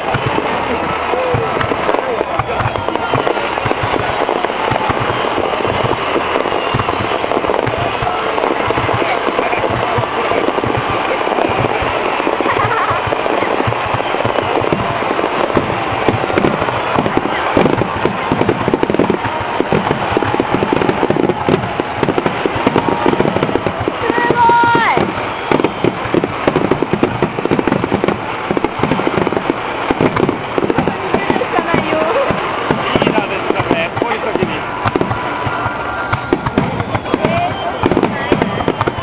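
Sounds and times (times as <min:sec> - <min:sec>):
fireworks crackling and popping: 0:00.0 - 0:39.0
onlookers' voices: 0:00.0 - 0:39.0.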